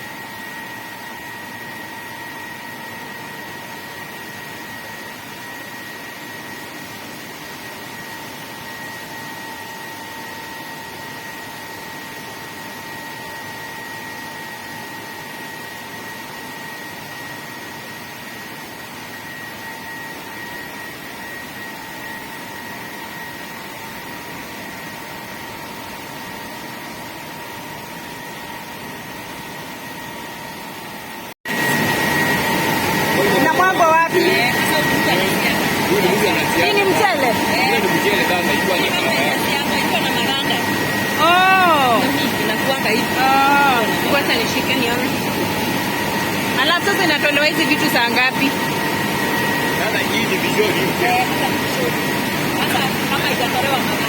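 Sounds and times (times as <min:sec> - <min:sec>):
loud machine noise: 0:00.0 - 0:54.0
milling machinery humming and whining: 0:00.0 - 0:54.0.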